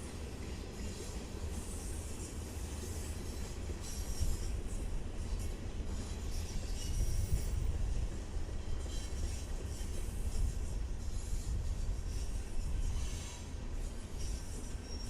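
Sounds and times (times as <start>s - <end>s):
train cars rumbling: 0.0s - 15.0s
wheel squeal: 1.8s - 7.7s, 8.6s - 15.0s.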